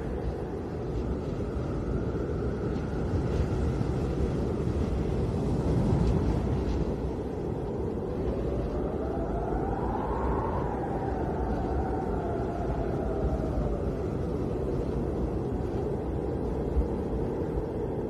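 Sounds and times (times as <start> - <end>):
whistling wind howl: 0.0 - 18.0
wind blowing with deep rumble: 0.0 - 18.0.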